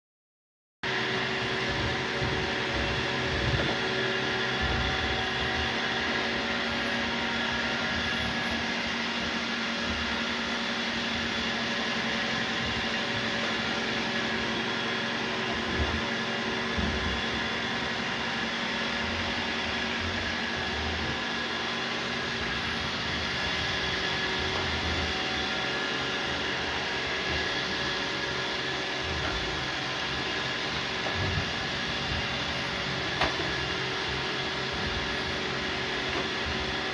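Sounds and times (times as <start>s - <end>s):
robot vacuums whirring: 0.9s - 36.9s.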